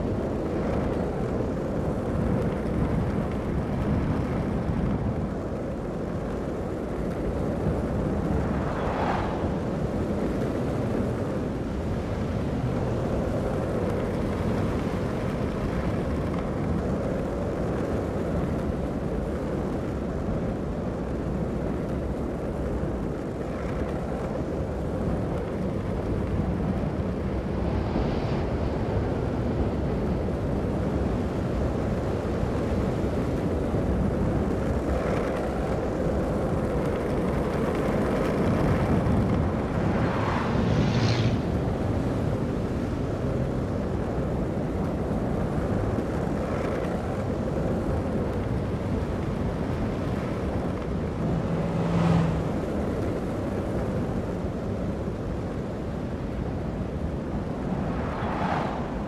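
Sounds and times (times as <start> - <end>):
longboard wheels rolling on asphalt: 0.0 - 59.0
rushing wind: 0.0 - 59.0.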